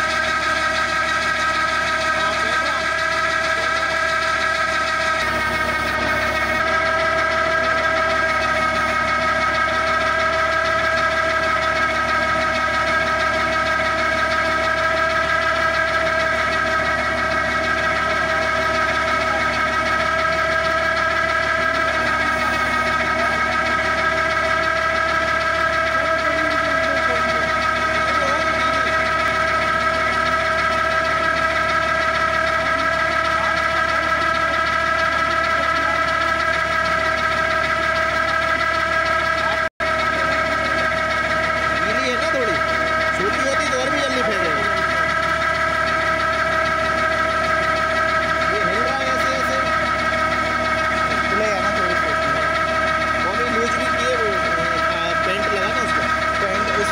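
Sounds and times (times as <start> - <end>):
hydraulic auger whine: 0.0 - 56.9
tractor engine running: 0.0 - 56.9.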